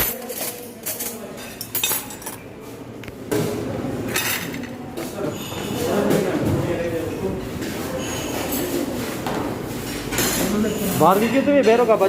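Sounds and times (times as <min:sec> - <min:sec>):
dishes and cutlery clinking: 0:00.0 - 0:02.6, 0:03.3 - 0:06.4, 0:07.6 - 0:12.0.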